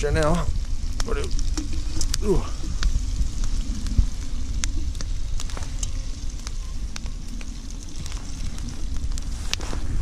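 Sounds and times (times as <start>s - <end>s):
low rumble: 0.0s - 10.0s
onions and pork sizzling in fat: 0.0s - 10.0s
sharp frying pops: 0.1s - 10.0s.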